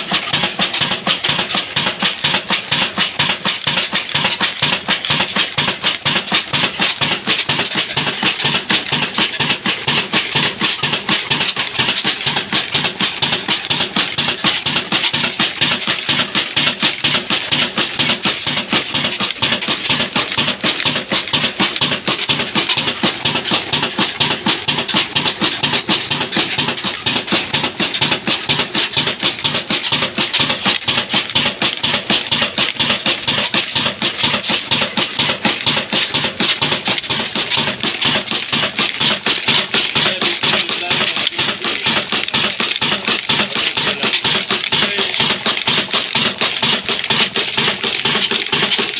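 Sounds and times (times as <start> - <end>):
stationary diesel engine knocking: 0.0 - 48.9.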